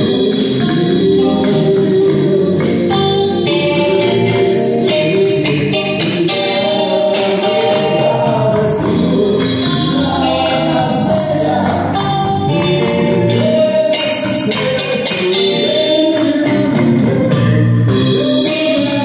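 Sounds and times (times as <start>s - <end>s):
bass guitar: 0.0s - 19.0s
drum kit: 0.0s - 19.0s
electric guitar: 0.0s - 19.0s
man singing into a microphone: 0.0s - 19.0s.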